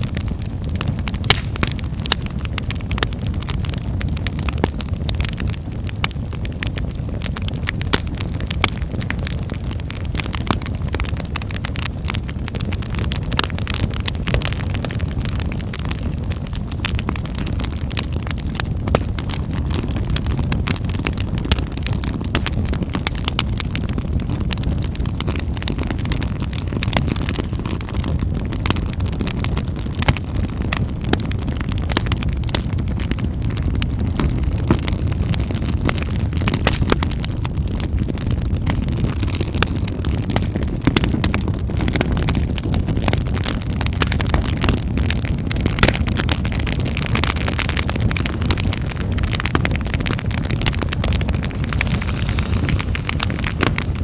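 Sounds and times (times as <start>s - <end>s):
burning wood crackling and popping: 0.0s - 54.0s
low rumble of flames: 0.0s - 54.0s.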